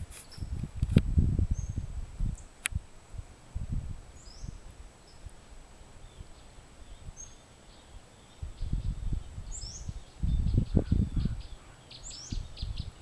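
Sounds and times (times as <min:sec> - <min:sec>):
wind gusts on microphone: 0:00.0 - 0:13.0.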